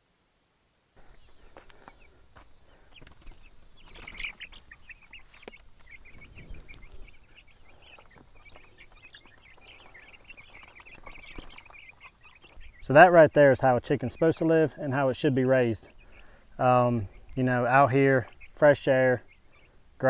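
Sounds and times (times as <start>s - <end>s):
chicks peeping: 1.0s - 20.0s.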